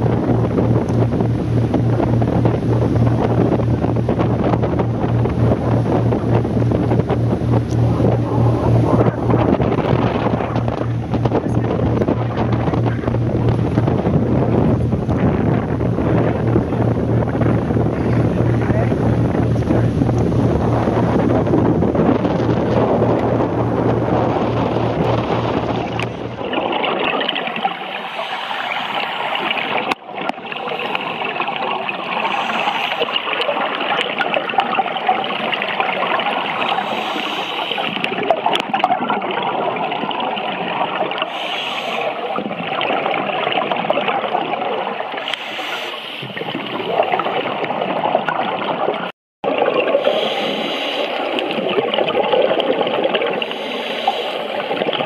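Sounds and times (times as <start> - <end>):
boat engine humming: 0.0 - 55.0
underwater bubbling of exhaled air: 0.0 - 55.0
wind on microphone: 0.0 - 55.0.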